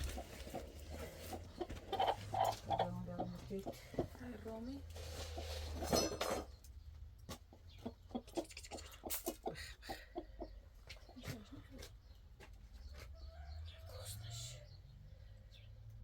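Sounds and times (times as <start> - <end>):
chickens clucking: 0.0 - 15.7.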